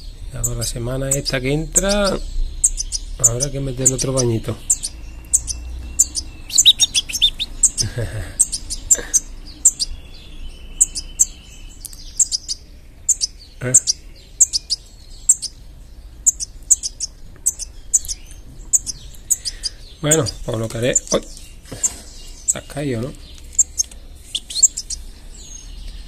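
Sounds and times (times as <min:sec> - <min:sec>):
fledgling bird begging calls: 0:00.0 - 0:10.0, 0:12.1 - 0:22.7, 0:23.6 - 0:25.1.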